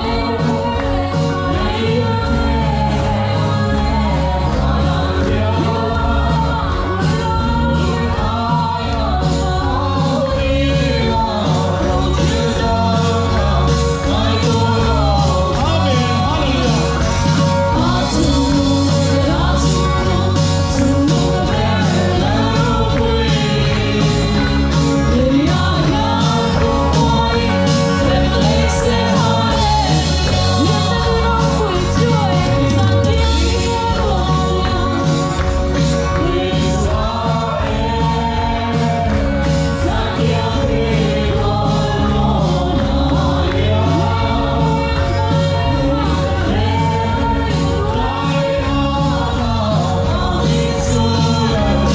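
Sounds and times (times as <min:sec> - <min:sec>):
instrumental accompaniment with beat: 0:00.0 - 0:51.9
voices singing together: 0:00.0 - 0:51.9.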